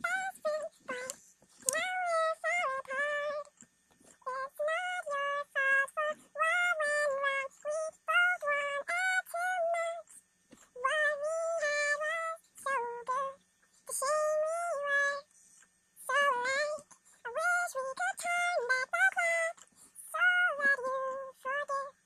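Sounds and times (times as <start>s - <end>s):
pitched-up girl singing: 0.0s - 15.3s, 16.0s - 22.0s.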